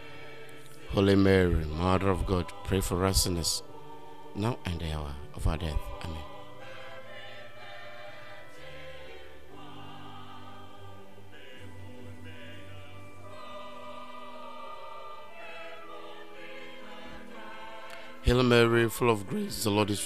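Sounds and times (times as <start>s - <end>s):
slow choir music: 0.0s - 20.0s.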